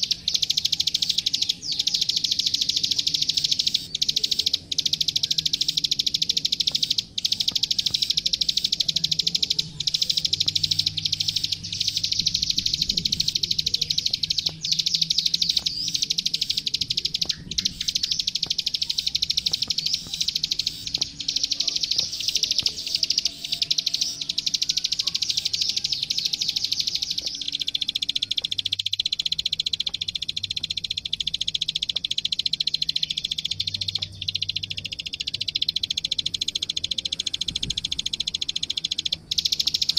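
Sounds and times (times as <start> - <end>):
bird singing high clicking notes: 0.0 - 39.9.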